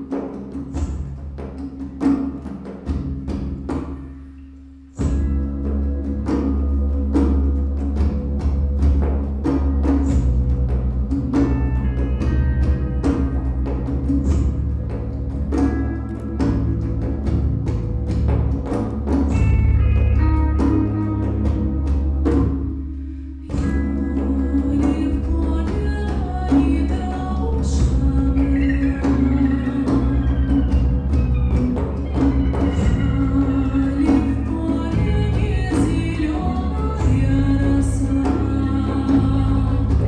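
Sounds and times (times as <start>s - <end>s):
drum strokes: 0.0s - 37.6s
low drone: 4.4s - 40.0s.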